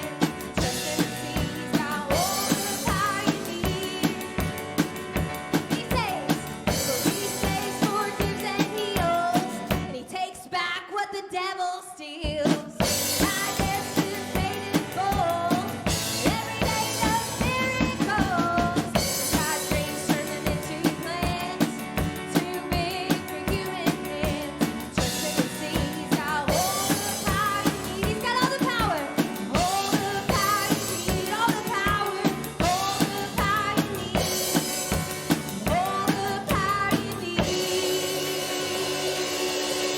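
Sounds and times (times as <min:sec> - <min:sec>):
drum kit beat: 0:00.0 - 0:10.1, 0:12.3 - 0:39.9
live band playing worship song: 0:00.0 - 0:10.1, 0:12.4 - 0:39.9.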